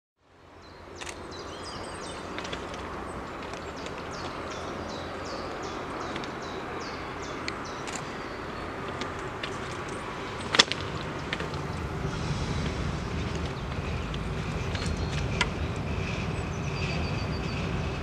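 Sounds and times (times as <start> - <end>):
distant diesel railcar rumble: 0.3 - 18.0
birds singing: 0.6 - 12.3, 13.0 - 18.0.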